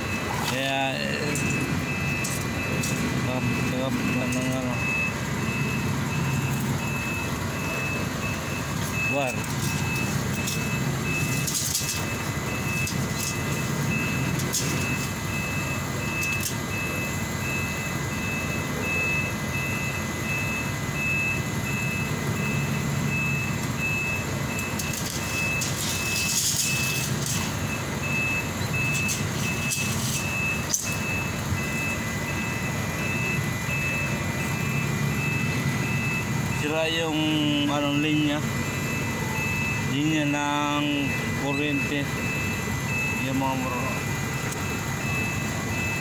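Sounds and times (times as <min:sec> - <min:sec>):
engine rumbling: 0:00.0 - 0:46.0
reversing alarm beeping: 0:00.0 - 0:46.0.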